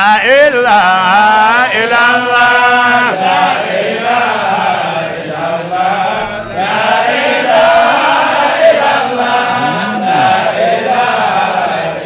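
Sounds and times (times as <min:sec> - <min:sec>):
men singing devotional chant: 0:00.0 - 0:12.0.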